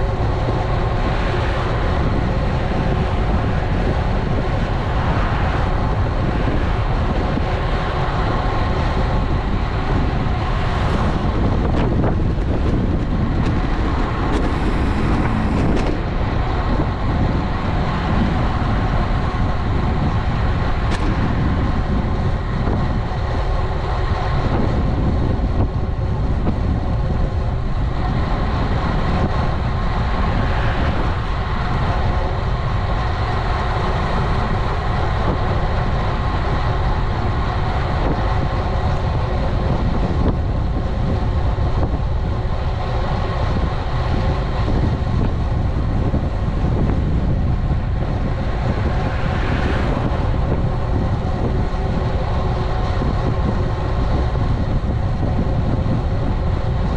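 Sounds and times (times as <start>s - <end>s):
bike rolling on road hum: 0.0s - 56.9s
wind buffeting microphone: 0.0s - 56.9s.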